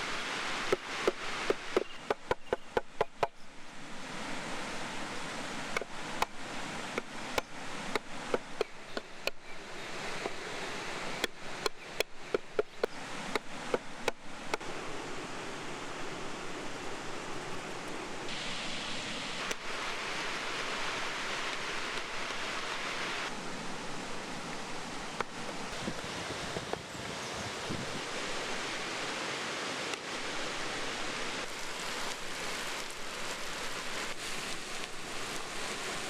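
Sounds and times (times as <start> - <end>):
steady outdoor hiss: 0.0 - 36.0.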